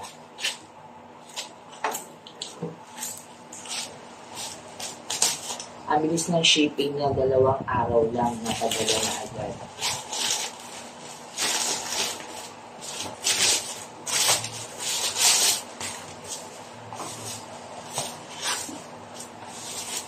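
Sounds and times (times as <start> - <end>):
plastic packaging rustling: 1.2 - 5.8, 8.2 - 20.0.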